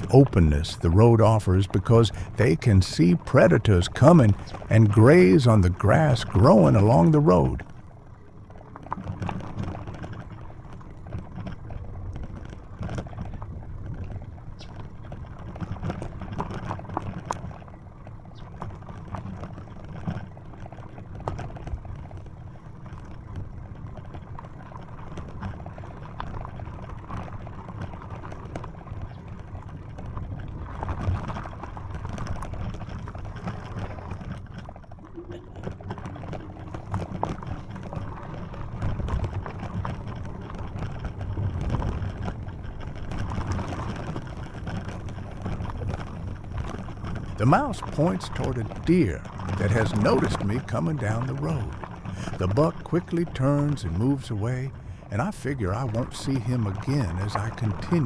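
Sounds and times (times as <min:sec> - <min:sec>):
bicycle tyres on dirt road: 0:00.0 - 0:58.0
bike clicks and rattles: 0:00.0 - 0:58.0
wind rumble: 0:00.0 - 0:58.0.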